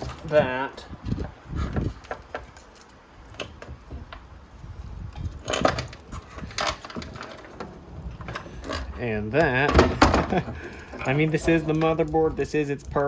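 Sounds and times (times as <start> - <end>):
loose parts being handled: 0.0 - 13.0.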